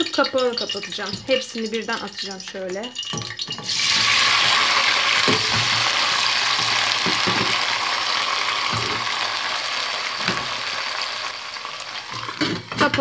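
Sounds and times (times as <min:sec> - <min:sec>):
peppers sizzling in hot oil: 0:00.0 - 0:13.0.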